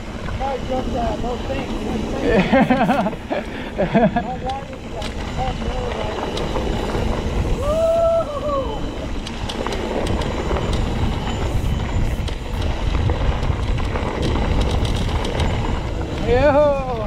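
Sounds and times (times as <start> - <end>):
bike clicks and rattles on rocks: 0.0 - 17.0
tyres rolling on dirt: 0.0 - 17.0
wind on microphone: 0.0 - 17.0.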